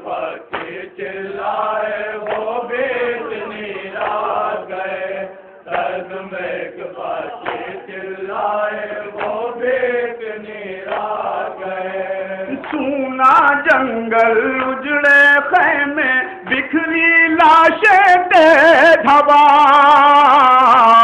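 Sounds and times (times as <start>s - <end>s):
men chanting a lament through loudspeakers: 0.0s - 21.0s.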